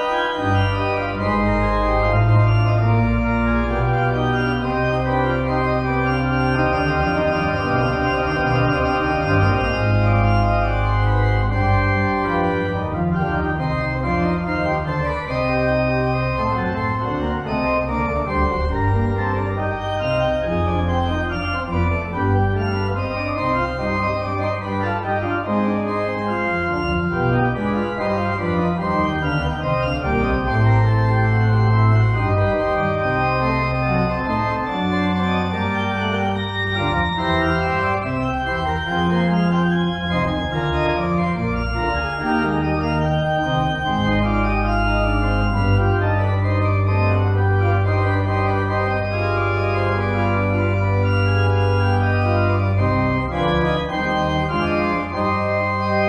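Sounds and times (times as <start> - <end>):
pipe organ playing sustained chords: 0.0 - 56.0.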